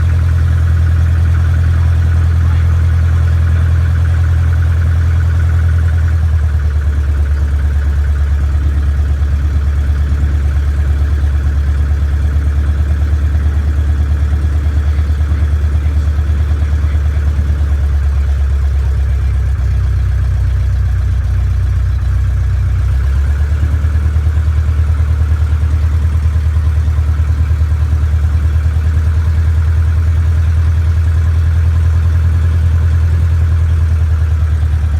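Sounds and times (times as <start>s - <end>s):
small airplane engine drone: 0.0s - 34.9s.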